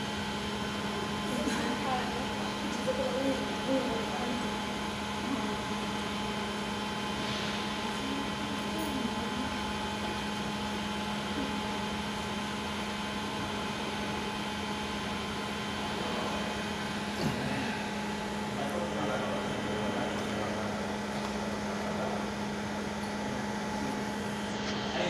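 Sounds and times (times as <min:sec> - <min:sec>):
constant low hum: 0:00.0 - 0:25.0
hot-air blower whirring: 0:00.0 - 0:25.0.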